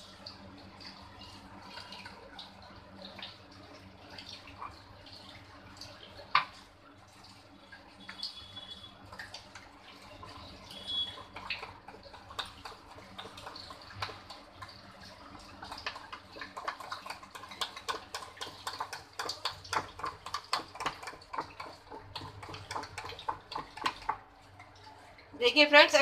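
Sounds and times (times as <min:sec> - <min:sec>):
batter being mixed by hand: 0:00.0 - 0:26.0.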